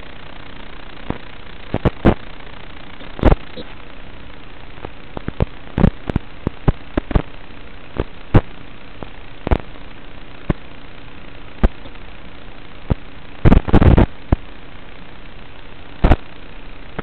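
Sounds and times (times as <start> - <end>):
sharp crackling pops: 0.0 - 17.0
static hiss: 0.0 - 17.0.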